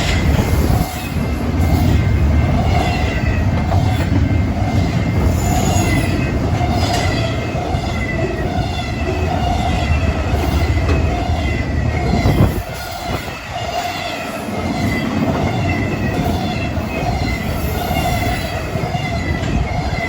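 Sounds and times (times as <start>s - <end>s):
freight train wheels rumbling on rails: 0.0s - 20.0s
train wheels squealing: 0.0s - 20.0s.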